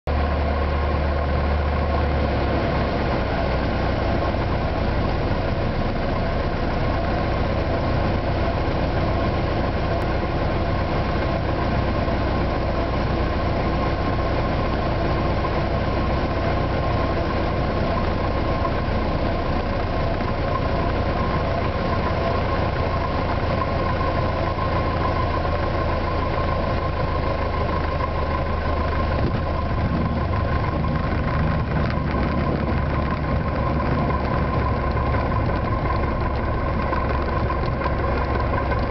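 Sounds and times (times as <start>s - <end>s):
light aircraft engine droning: 0.1s - 38.9s.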